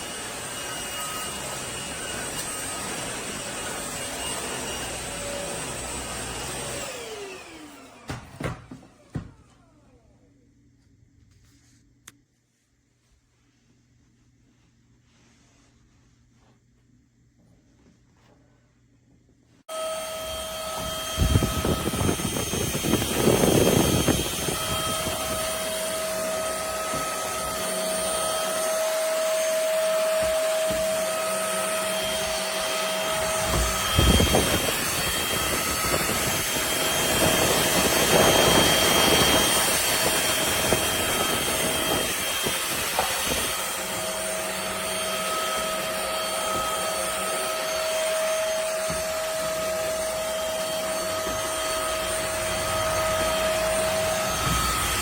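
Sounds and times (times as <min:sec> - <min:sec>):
stick vacuum high whine: 0:00.0 - 0:10.2, 0:19.7 - 0:55.0.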